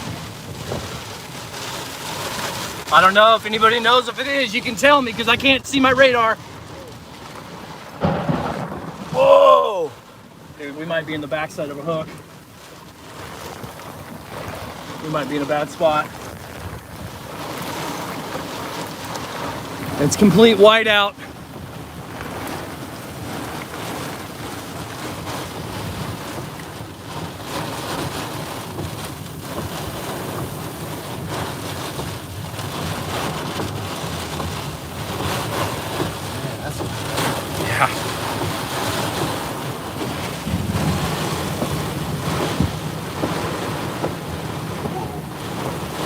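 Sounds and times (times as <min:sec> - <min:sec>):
wind and rain buffeting truck: 0:00.0 - 0:46.0.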